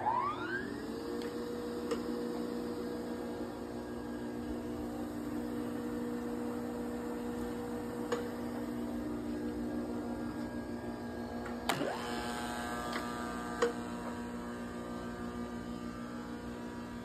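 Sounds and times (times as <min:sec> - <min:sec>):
grinder motor whine: 0:00.0 - 0:17.0.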